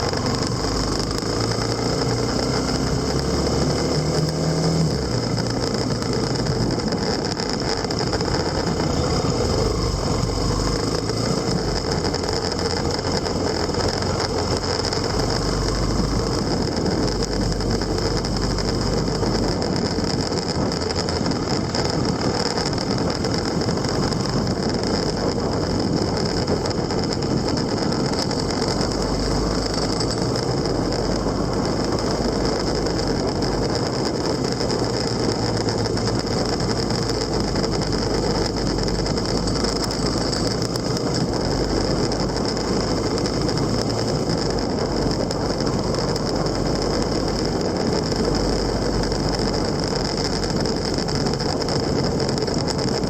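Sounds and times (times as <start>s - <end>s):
road and wind noise: 0.0s - 53.0s
vehicle engine drone: 0.0s - 53.0s.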